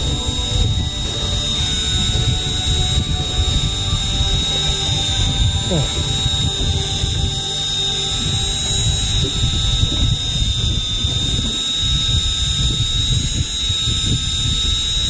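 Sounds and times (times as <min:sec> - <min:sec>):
boat running noise: 0:00.0 - 0:15.0
high-pitched whine: 0:00.0 - 0:15.0
low rumble of wind: 0:00.0 - 0:15.0.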